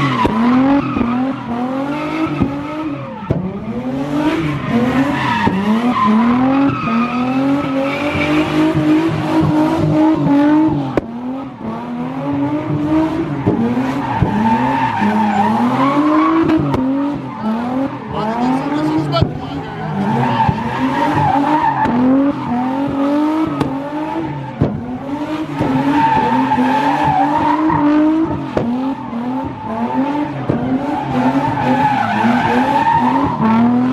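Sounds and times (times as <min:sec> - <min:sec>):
car engine revving hard: 0:00.0 - 0:33.9
tires squealing: 0:00.0 - 0:33.9.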